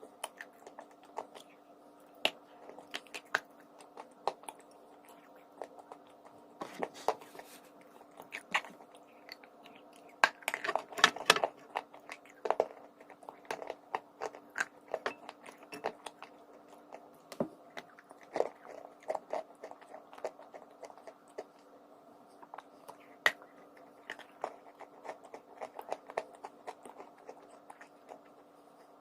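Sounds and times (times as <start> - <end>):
person chewing crunchy chalk: 0.0 - 21.7, 22.4 - 29.0.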